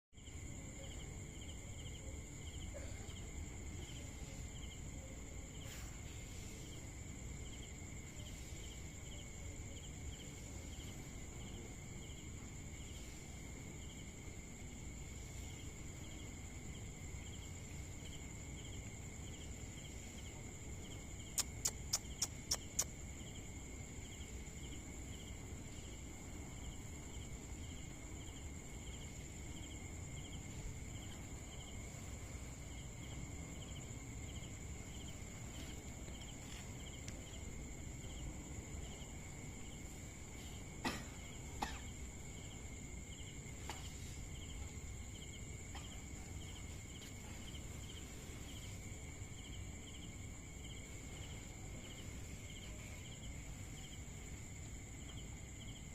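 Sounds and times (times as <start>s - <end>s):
insects chirping: 0.1s - 55.9s.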